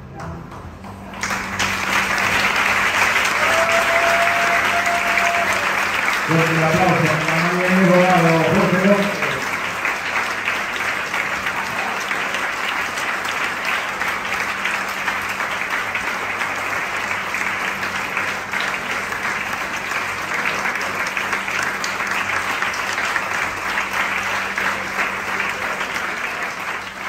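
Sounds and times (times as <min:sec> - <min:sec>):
audience applauding: 0:01.0 - 0:27.0.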